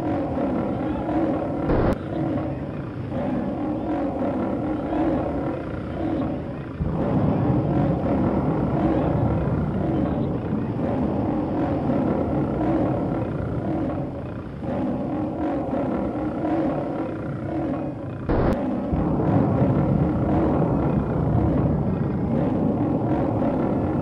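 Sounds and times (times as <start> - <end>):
monster growling roar: 0.0 - 24.0.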